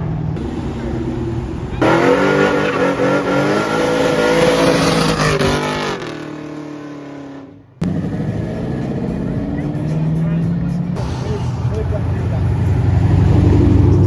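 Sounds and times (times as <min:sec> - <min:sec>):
car engine accelerating hard: 0:00.4 - 0:14.0.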